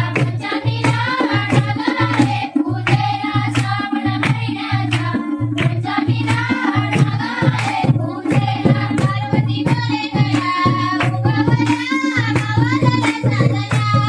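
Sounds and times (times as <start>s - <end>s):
drum strokes: 0.0s - 14.0s.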